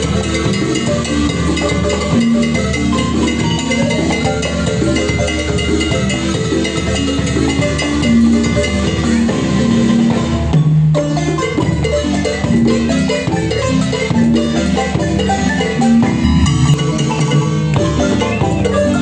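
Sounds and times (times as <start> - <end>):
marimba band playing: 0.0 - 19.0.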